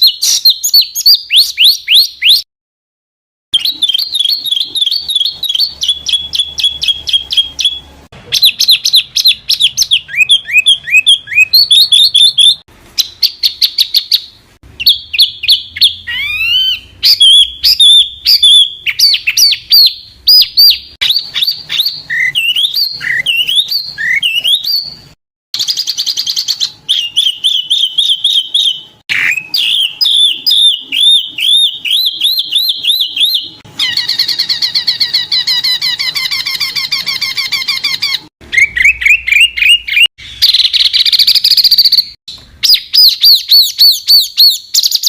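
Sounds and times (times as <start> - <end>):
songbirds whistling and trilling: 0.0 - 2.4, 3.6 - 45.0.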